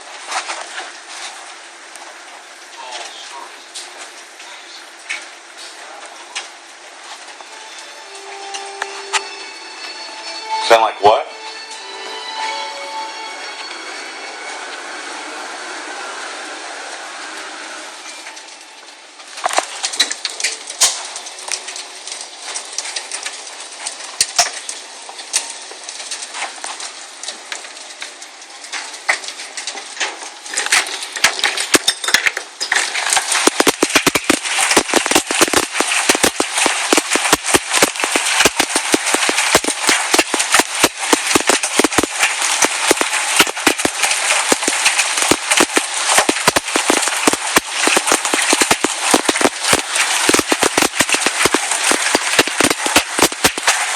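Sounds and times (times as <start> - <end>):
hailstones pelting hard surfaces: 0.0 - 9.9, 18.0 - 53.9.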